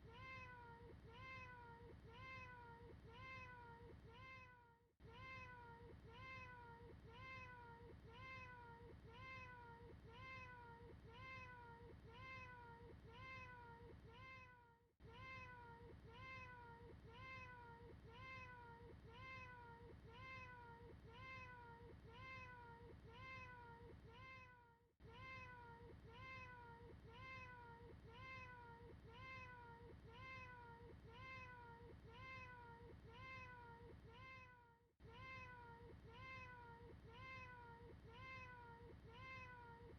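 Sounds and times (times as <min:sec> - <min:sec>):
cat meows: 0:00.0 - 0:39.8.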